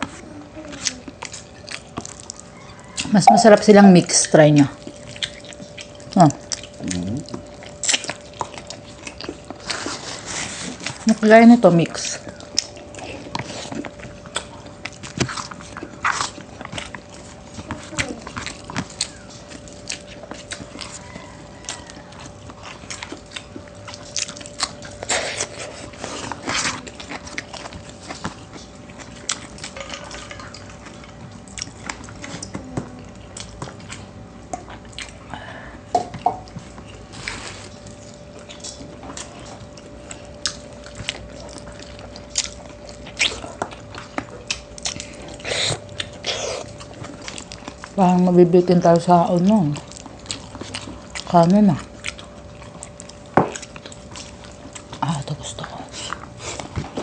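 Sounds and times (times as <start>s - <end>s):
close chewing and biting: 0.0s - 57.0s
faint steady hum: 0.0s - 57.0s.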